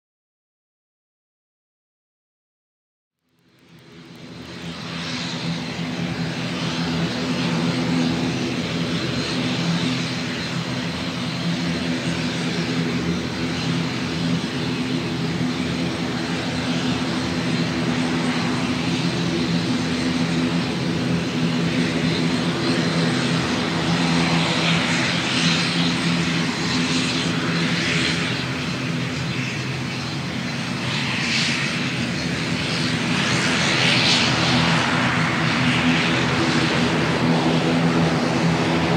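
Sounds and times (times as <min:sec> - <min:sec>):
jet engines droning: 0:03.3 - 0:38.9.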